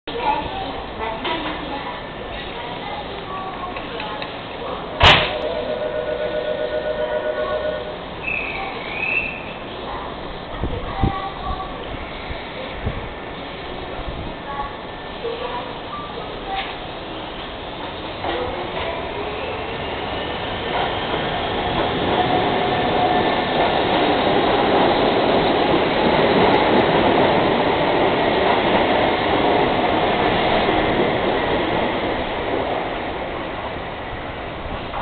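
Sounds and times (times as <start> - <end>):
train wheel and rail noise: 0.1 - 35.0.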